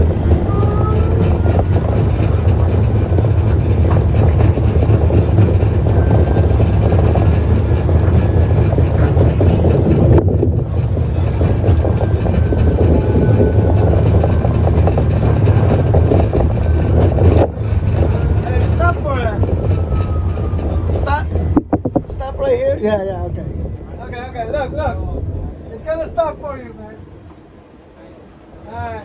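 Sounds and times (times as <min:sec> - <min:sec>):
streetcar wheels rumbling on rail: 0:00.0 - 0:29.0.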